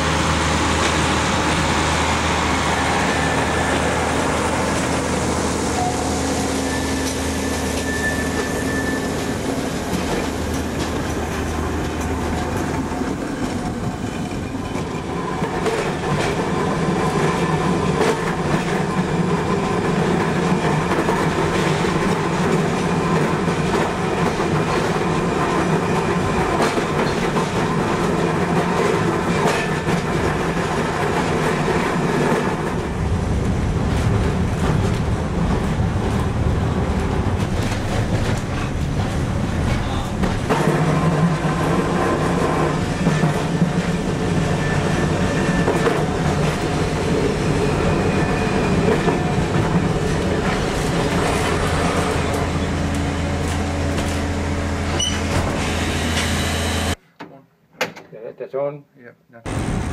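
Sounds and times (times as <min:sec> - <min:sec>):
electric tram running on rails: 0:00.0 - 0:57.0, 0:59.5 - 0:59.9.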